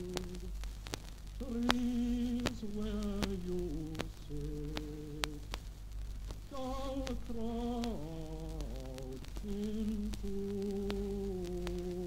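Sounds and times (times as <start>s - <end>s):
person singing slow tune: 0.0s - 12.0s
record surface clicks: 0.0s - 12.0s
steady low hum: 0.0s - 12.0s.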